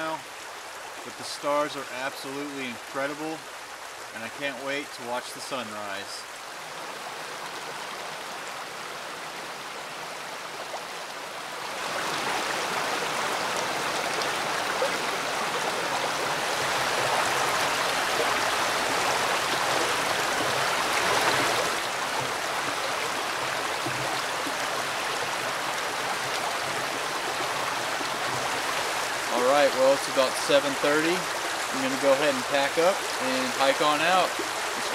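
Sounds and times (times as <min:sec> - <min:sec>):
creek water flowing: 0:00.0 - 0:34.9.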